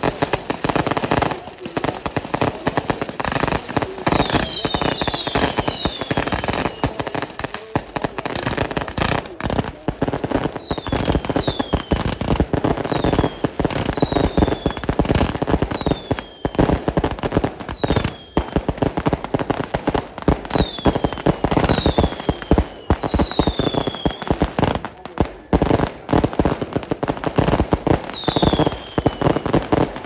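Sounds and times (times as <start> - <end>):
fireworks crackling and banging: 0.0 - 30.0
whistling fireworks: 0.0 - 30.0.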